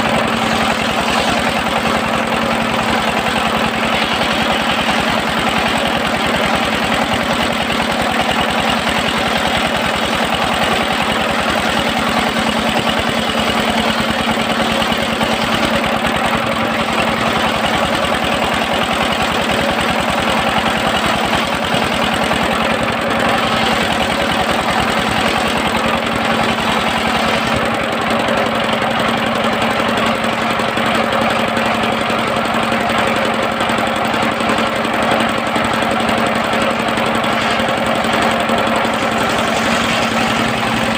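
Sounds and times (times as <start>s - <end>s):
circular sawmill engine drone: 0.0s - 40.9s.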